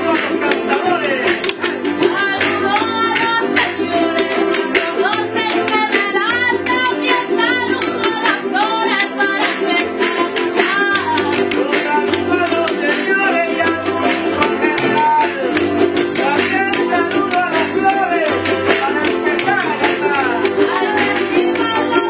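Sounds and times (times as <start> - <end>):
people singing: 0.0 - 22.0
sharp percussive strikes: 0.0 - 22.0
strummed jaranas: 0.0 - 22.0.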